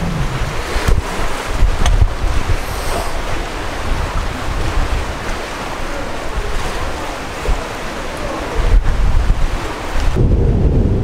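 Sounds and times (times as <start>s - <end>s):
sea waves rushing: 0.0s - 11.0s
wind buffeting microphone: 0.0s - 11.0s.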